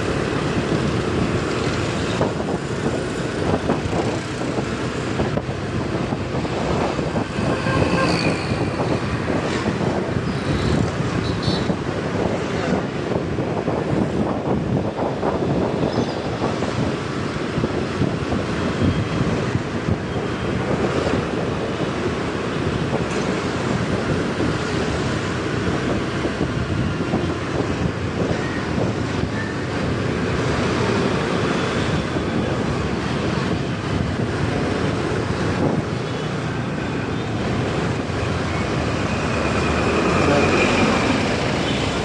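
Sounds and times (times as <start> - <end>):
road and traffic noise: 0.0 - 42.0
wind buffeting microphone: 0.0 - 42.0.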